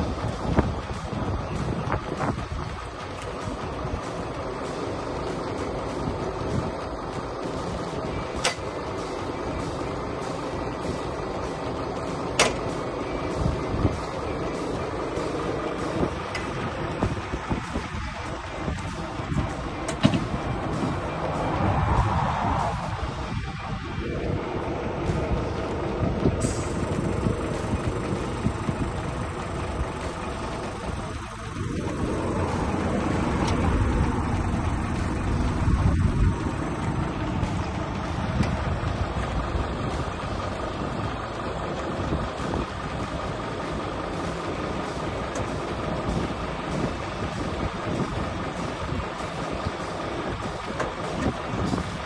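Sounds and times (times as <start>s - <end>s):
low vehicle hum: 0.0s - 52.0s.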